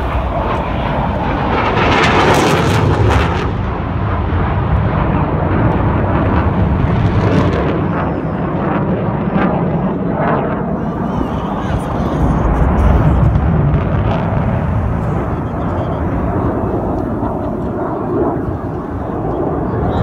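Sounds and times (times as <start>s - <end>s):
jet roaring overhead: 0.0s - 20.0s.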